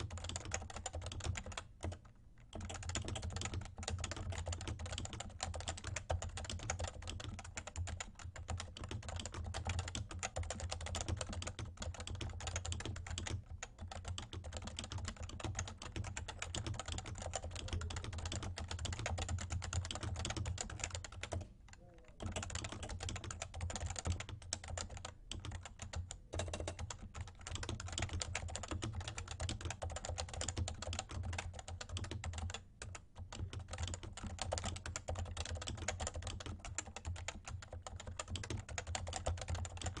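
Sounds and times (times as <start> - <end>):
fast keyboard typing: 0.0 - 40.0.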